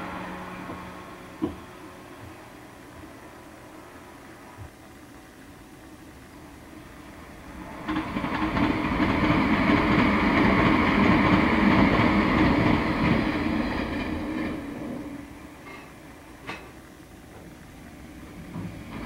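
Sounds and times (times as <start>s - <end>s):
electric train passing on rails: 0.0s - 19.0s.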